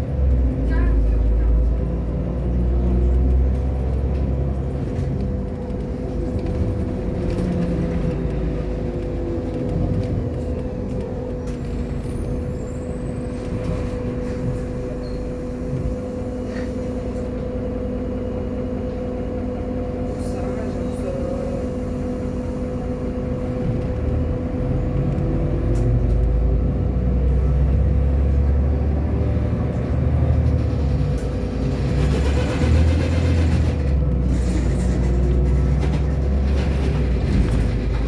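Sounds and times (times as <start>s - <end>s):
bus engine drone: 0.0s - 38.0s.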